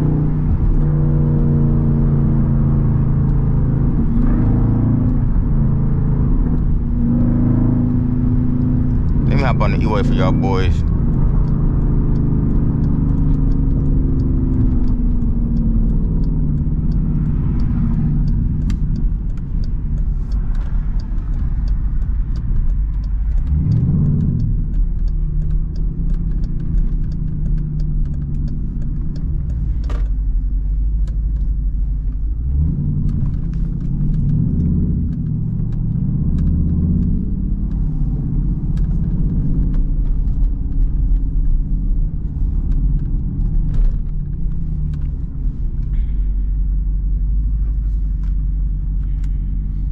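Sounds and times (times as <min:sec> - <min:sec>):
engine exhaust rumbling: 0:00.0 - 0:49.9.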